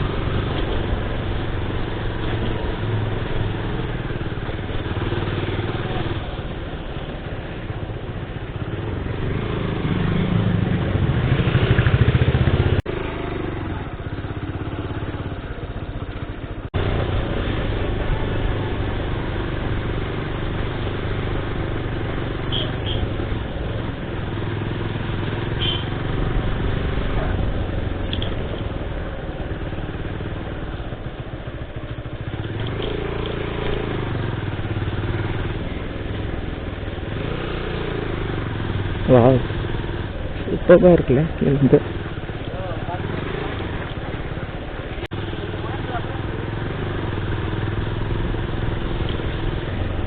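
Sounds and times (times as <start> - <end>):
motorcycle engine running: 0.0 - 50.0
road and wind noise: 0.0 - 50.0.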